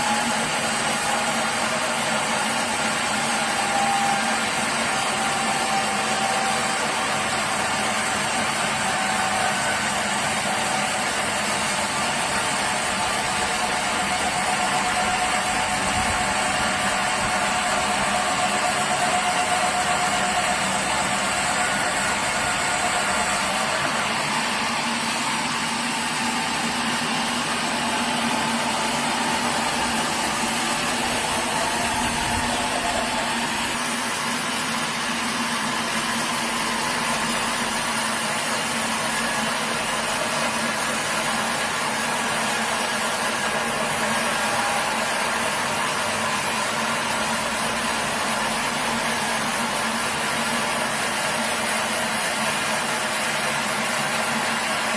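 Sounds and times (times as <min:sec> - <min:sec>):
sawmill machinery drone: 0:00.0 - 0:54.9.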